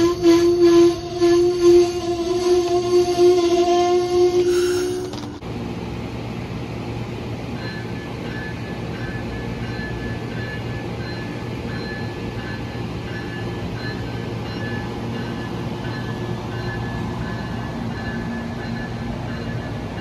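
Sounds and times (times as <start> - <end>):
passenger train rumbling past: 0.0 - 20.0.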